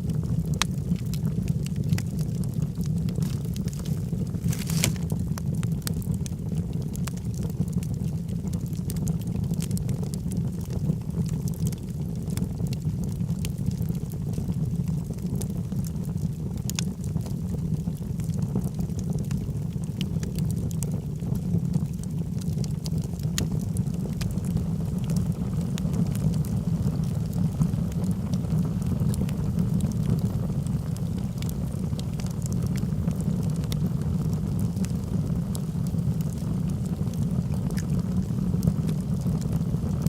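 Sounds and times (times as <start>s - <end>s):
fire rumbling: 0.0s - 40.0s
wood crackling and popping: 0.0s - 40.0s.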